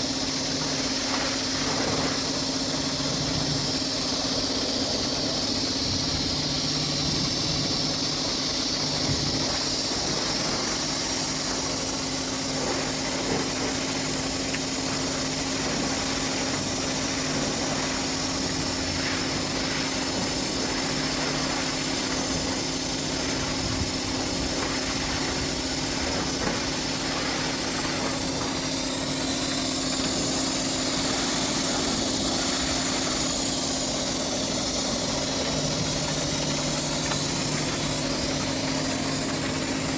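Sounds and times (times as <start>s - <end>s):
pressure washer motor hum: 0.0s - 39.9s
water spray hissing: 0.0s - 39.9s.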